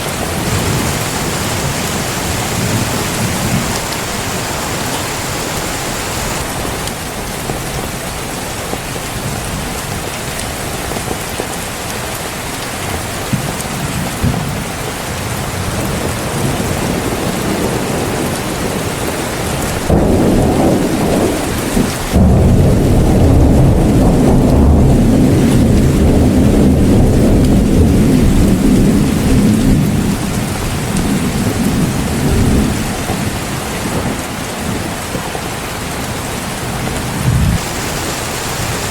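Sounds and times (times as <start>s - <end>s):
thunder rumbling: 0.0s - 10.1s, 13.0s - 38.9s
heavy rain falling: 0.0s - 38.9s.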